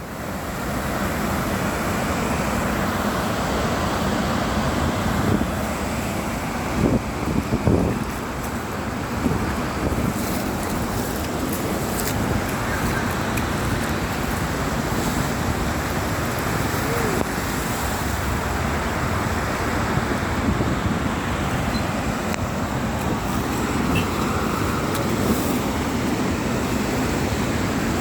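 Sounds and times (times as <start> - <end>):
river rushing: 0.0 - 28.0.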